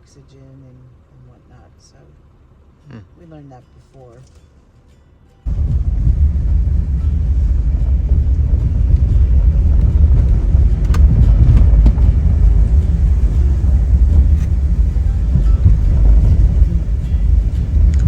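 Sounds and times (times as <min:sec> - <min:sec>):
car driving rumble: 0:00.0 - 0:04.8, 0:05.4 - 0:18.0.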